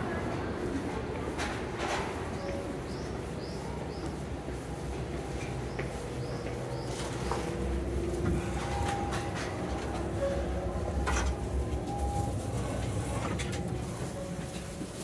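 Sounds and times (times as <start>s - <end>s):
footsteps boarding train: 0.0s - 15.0s
standing train rumble and hum: 0.0s - 15.0s.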